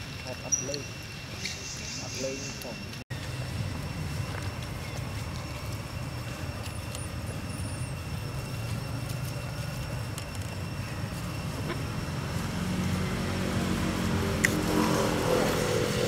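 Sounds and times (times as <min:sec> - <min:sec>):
motor vehicle engine rumble: 0:02.8 - 0:16.0.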